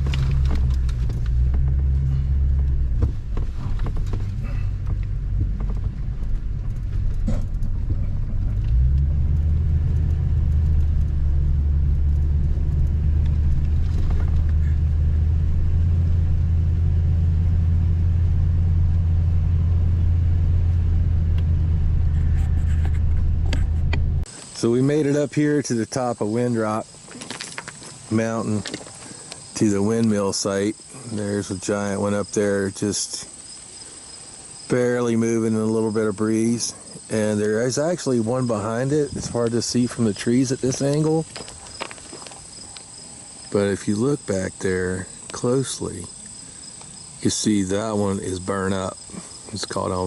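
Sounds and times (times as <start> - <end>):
pickup engine drone: 0.0 - 25.2, 34.6 - 50.0.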